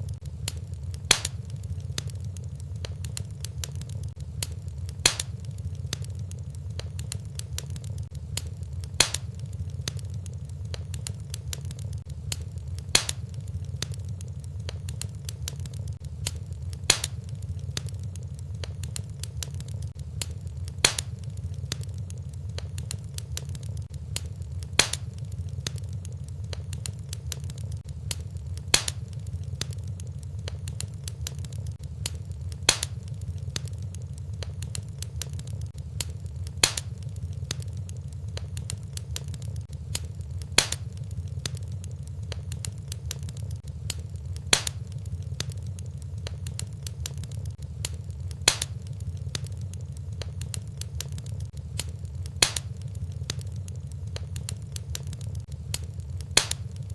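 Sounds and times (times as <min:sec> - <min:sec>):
fire rumbling: 0:00.0 - 0:56.9
wood fire crackling: 0:00.0 - 0:56.9
sharp pop from fire: 0:00.2 - 0:07.8, 0:08.4 - 0:29.8, 0:30.5 - 0:37.8, 0:38.4 - 0:41.6, 0:42.3 - 0:45.6, 0:46.2 - 0:49.5, 0:50.2 - 0:53.4, 0:54.2 - 0:56.9.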